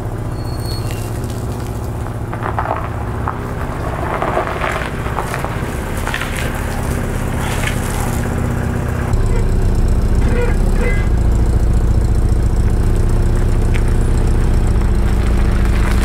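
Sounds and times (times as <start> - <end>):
car engine idling: 0.0 - 16.0
crackling noises: 0.1 - 16.0.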